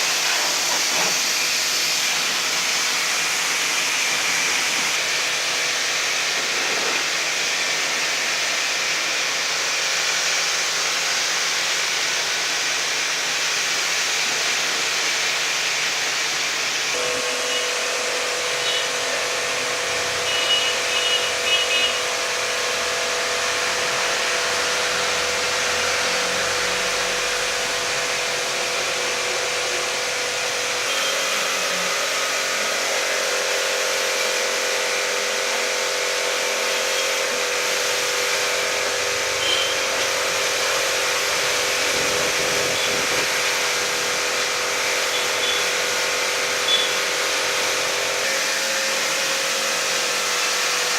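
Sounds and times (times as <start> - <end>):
car wash machinery hiss: 0.0 - 50.9.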